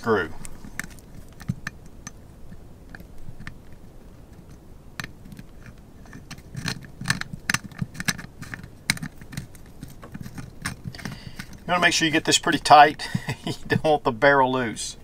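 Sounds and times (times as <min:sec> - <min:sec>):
metal clicks and scrapes: 0:00.0 - 0:13.9.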